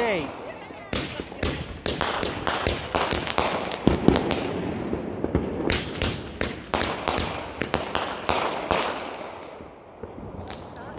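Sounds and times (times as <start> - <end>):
fireworks cracking and popping: 0.0 - 10.9.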